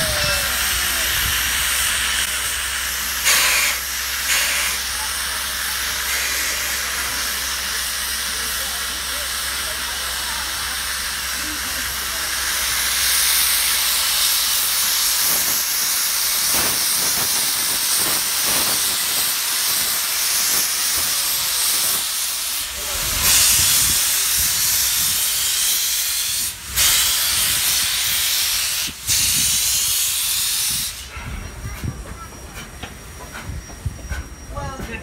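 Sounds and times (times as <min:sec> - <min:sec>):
steam locomotive hissing: 0:00.0 - 0:35.0.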